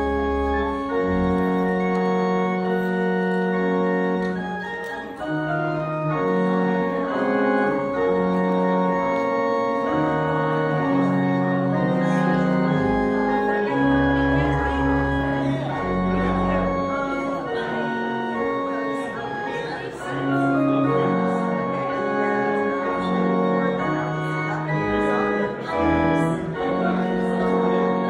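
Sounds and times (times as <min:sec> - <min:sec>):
church organ chords: 0:00.0 - 0:28.0
deep bass organ pedal notes: 0:00.0 - 0:28.0.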